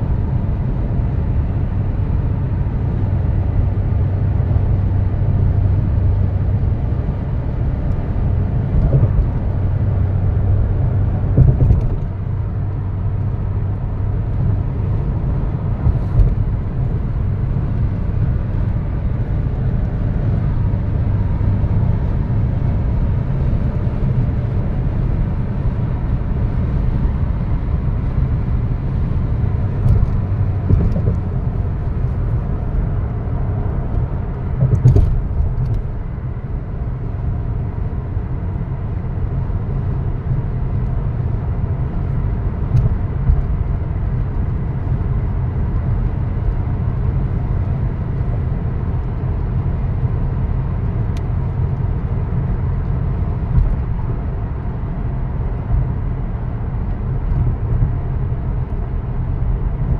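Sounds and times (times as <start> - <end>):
car tyre and engine rumble: 0.0 - 59.9.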